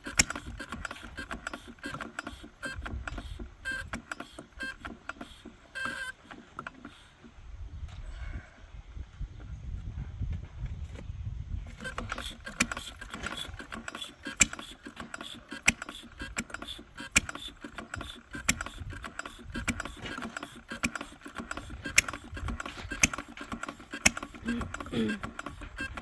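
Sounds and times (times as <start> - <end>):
engine firing pops: 0.0 - 7.4, 11.7 - 26.0
single-cylinder engine clattering: 0.0 - 7.8, 11.7 - 26.0.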